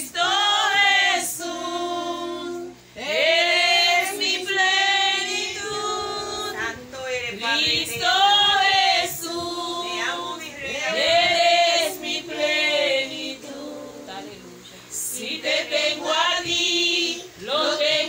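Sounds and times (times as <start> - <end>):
women singing without instruments: 0.0 - 18.0.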